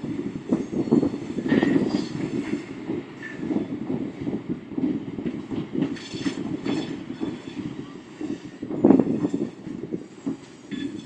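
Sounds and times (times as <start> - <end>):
freight train clattering over rails: 0.0 - 11.0.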